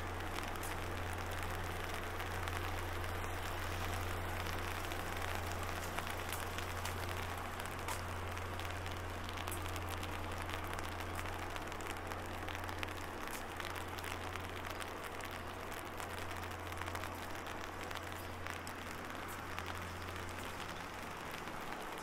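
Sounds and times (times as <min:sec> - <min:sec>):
rain pattering on umbrella: 0:00.0 - 0:22.0.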